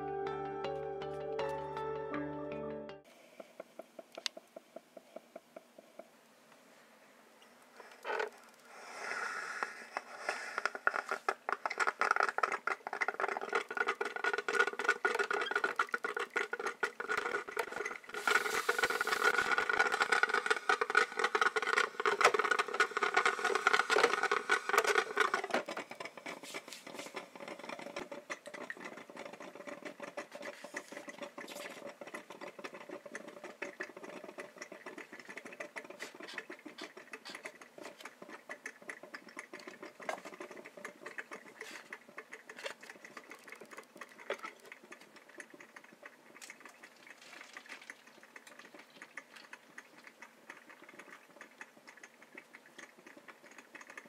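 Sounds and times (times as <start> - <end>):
coffee maker buzzing and gurgling: 7.7 - 8.7, 9.6 - 54.0.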